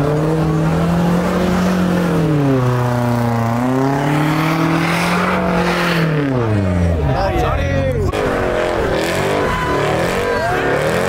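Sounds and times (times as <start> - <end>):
car engine revving hard: 0.0 - 7.0, 8.1 - 11.0.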